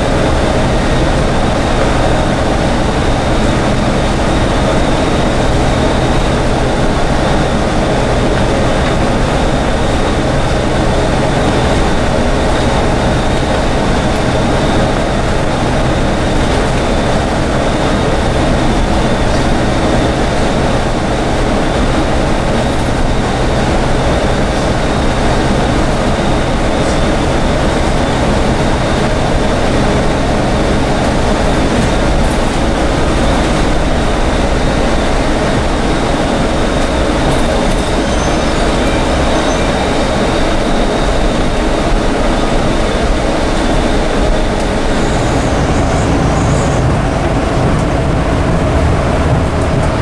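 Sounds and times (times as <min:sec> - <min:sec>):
bus engine and tyre rumble: 0:00.0 - 0:50.0
thin high whine: 0:00.0 - 0:50.0.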